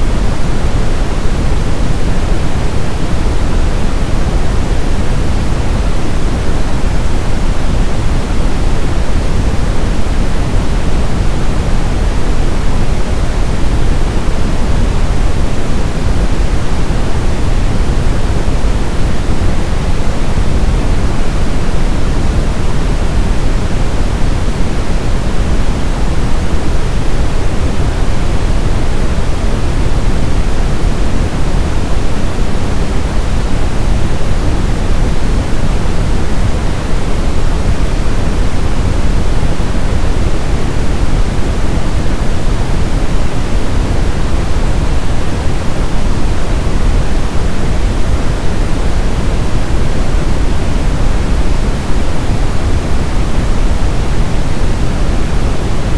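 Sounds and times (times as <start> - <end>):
brown noise: 0.0 - 55.9.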